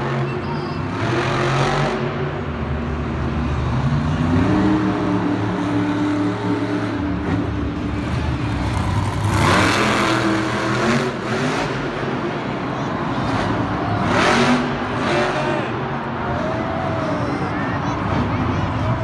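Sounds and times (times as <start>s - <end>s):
large engine revving: 0.0s - 17.2s.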